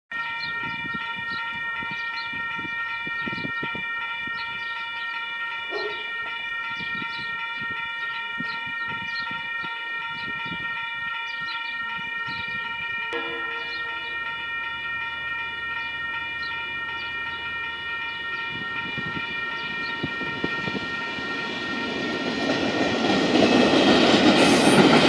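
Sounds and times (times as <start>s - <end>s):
level crossing warning bell: 0.1s - 25.0s.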